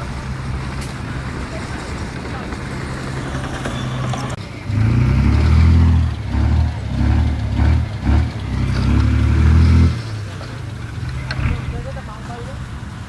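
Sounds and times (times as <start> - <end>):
heavy machine engine revving: 0.0 - 13.0.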